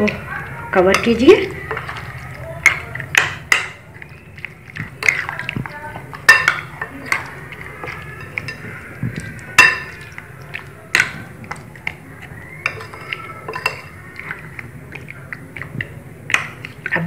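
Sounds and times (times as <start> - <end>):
spoon clinking against glass bowl: 0.8 - 17.0.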